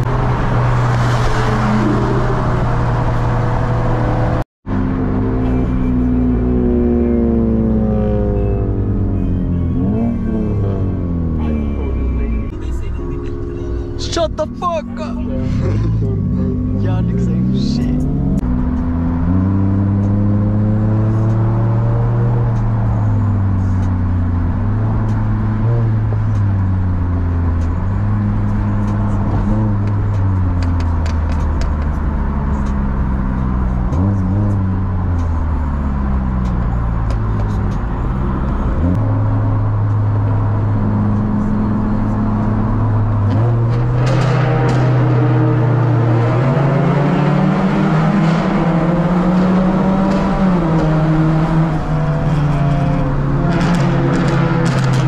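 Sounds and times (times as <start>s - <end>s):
car engine accelerating through gears: 0.0s - 12.5s, 13.6s - 55.0s.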